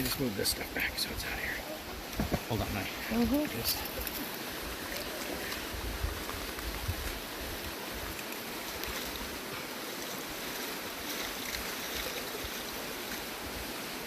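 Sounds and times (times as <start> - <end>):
brook water rushing: 0.0 - 14.0.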